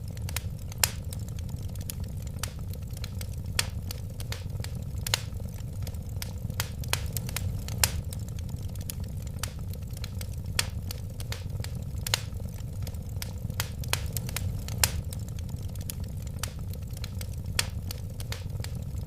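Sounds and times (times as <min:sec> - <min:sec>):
fire crackling and popping: 0:00.0 - 0:19.0
wood fire rumbling: 0:00.0 - 0:19.0.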